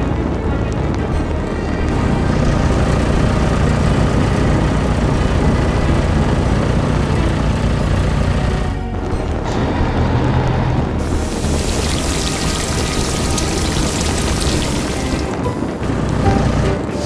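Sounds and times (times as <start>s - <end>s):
heavy machinery engine rumbling: 0.0s - 17.0s.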